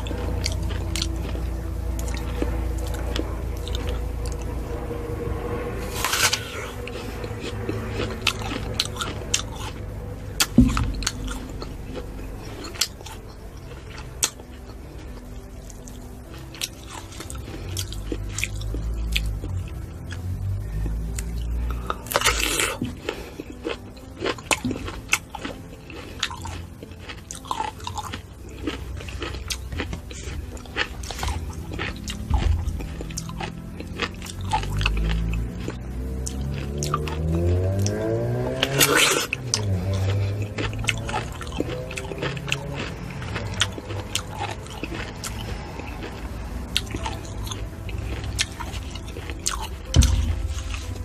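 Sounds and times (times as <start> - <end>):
biting crisp fruit: 0.0 - 51.0
wet chewing: 0.0 - 51.0.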